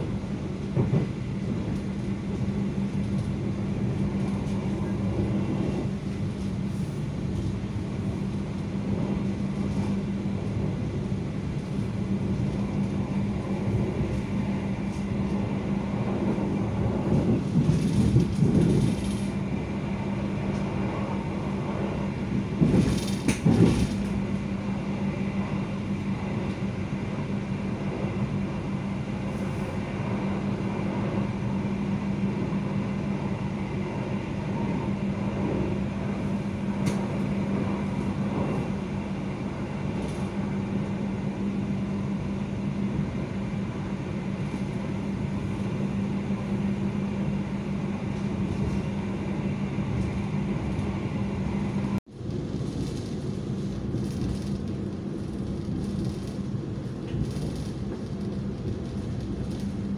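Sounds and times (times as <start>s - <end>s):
passenger train rumbling: 0.0s - 59.9s.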